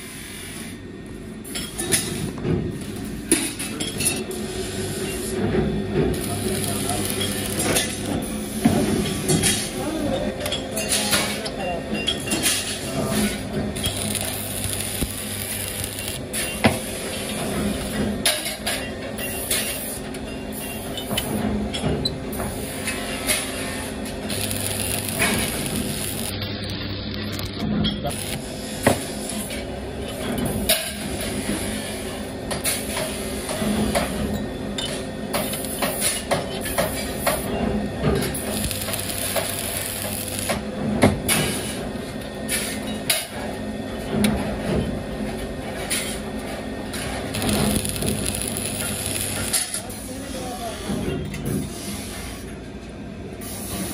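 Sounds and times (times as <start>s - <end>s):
arc welder humming: 0.0s - 51.0s.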